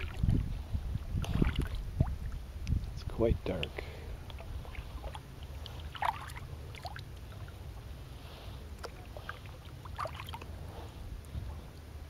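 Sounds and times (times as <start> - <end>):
water splashing against kayak: 0.0 - 2.8, 3.8 - 11.9
steady low rumble: 0.0 - 12.0.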